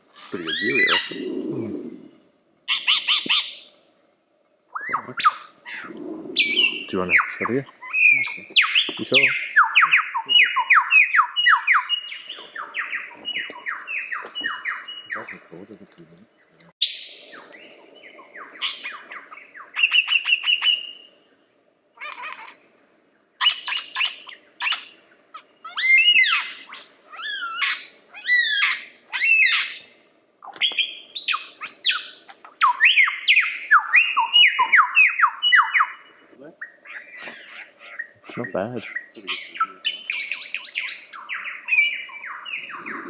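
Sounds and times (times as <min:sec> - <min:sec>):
lyrebird singing: 0:00.2 - 0:03.8, 0:04.7 - 0:21.4, 0:23.4 - 0:43.0.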